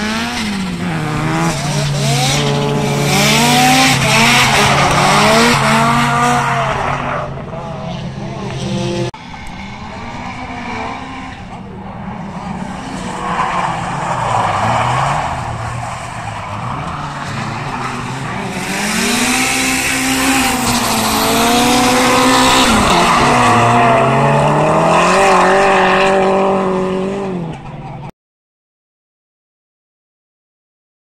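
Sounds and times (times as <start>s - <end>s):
car engines revving: 0.0s - 28.1s.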